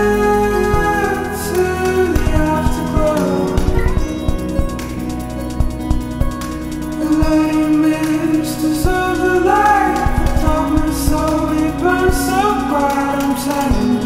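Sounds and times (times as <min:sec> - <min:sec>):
instrumental accompaniment: 0:00.0 - 0:14.0
person singing long sliding notes: 0:00.0 - 0:14.0.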